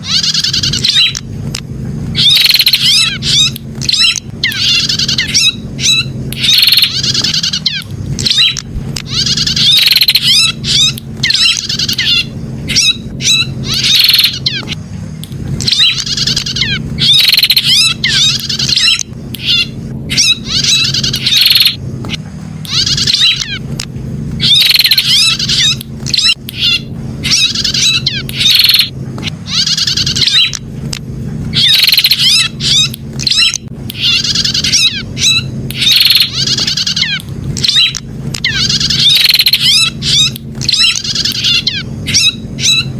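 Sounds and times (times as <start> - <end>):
bird chattering song: 0.0 - 42.9
steady low hum: 0.0 - 42.9.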